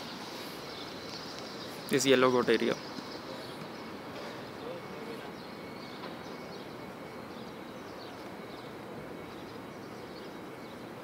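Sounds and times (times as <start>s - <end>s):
faint steady high tone: 1.8s - 11.0s.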